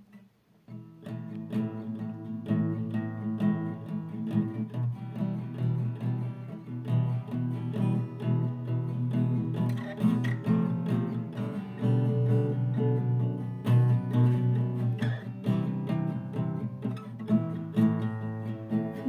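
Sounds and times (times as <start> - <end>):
strummed guitar: 0.0 - 19.0
lead guitar line: 0.7 - 19.0.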